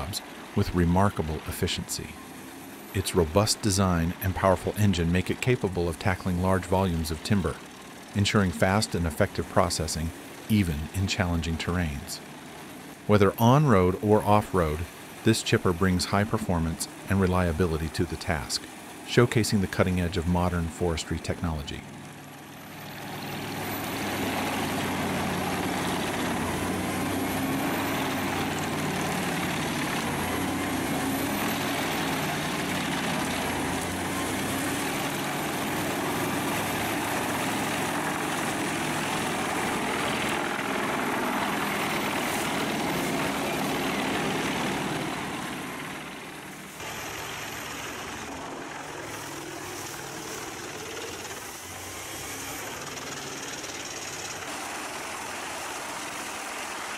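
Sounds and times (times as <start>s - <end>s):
wood chipper diesel engine running: 0.0s - 56.9s.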